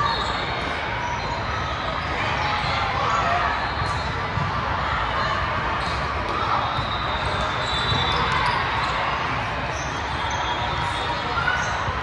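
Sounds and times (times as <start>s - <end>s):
indistinct crowd chatter: 0.0s - 12.0s.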